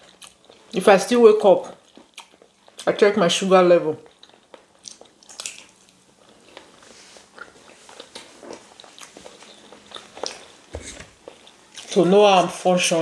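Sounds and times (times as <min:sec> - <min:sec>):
chewing rice and beans: 0:00.0 - 0:12.5.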